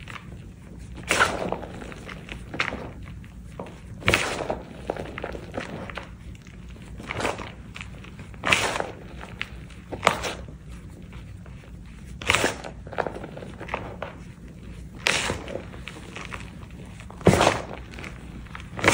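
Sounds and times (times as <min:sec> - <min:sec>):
chalk lumps crunching in hands: 0:00.0 - 0:18.9.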